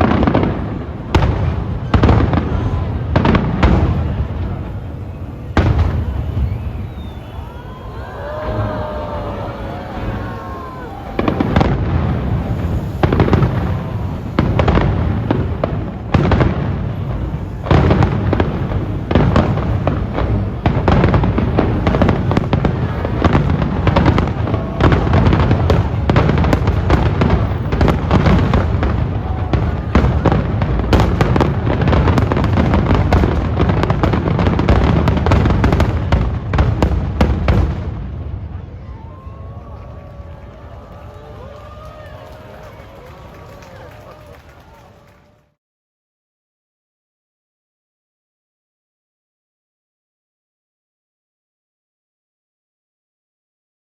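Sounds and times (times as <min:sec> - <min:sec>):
fireworks bursting and crackling: 0:00.0 - 0:45.2.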